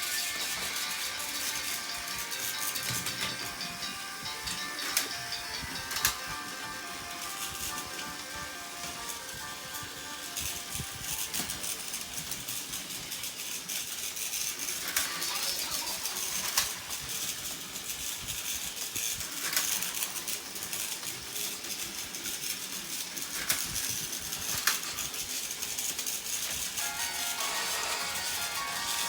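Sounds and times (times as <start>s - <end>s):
toy trains rattling on track: 0.0s - 29.0s.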